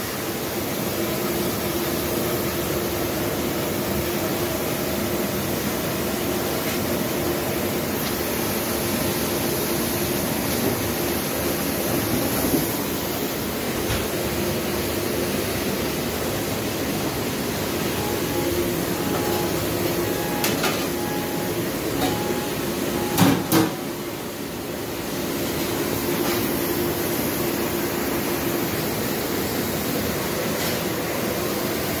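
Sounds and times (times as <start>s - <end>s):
low machine hum: 0.5s - 30.2s.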